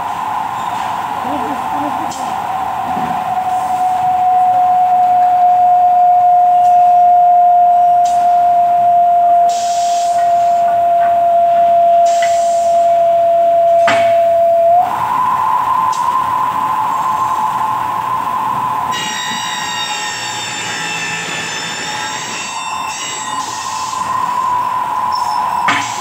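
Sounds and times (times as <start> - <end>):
milling machine high whine: 0.0 - 26.0.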